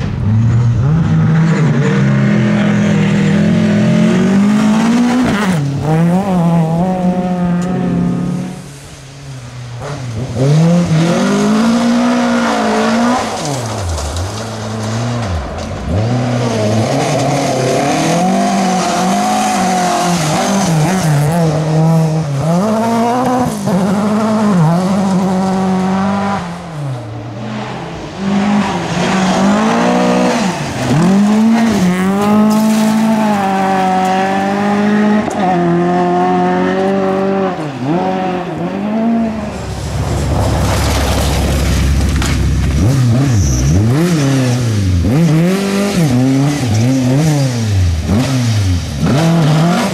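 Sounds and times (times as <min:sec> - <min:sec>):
rally car engine at full throttle: 0:00.0 - 0:49.9.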